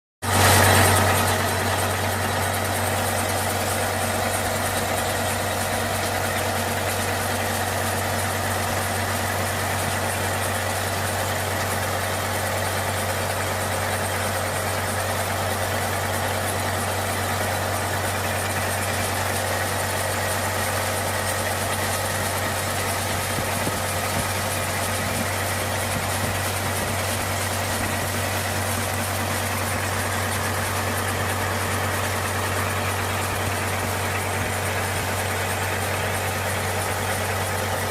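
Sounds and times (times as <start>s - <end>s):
diesel engine idling: 0.2s - 37.9s.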